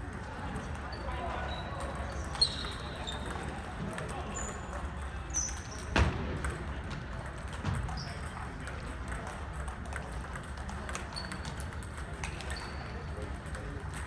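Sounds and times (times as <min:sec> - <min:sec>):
table tennis balls clicking: 0:01.7 - 0:14.0.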